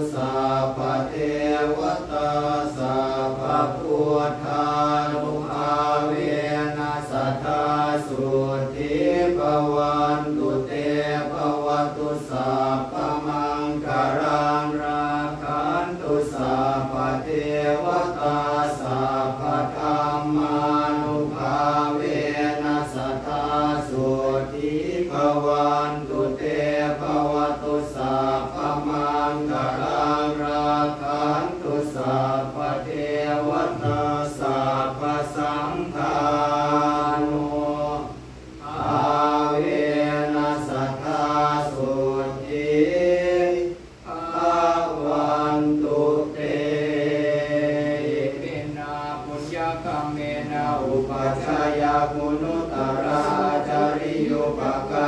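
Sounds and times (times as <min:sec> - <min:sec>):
monks chanting in unison: 0:00.0 - 0:55.0.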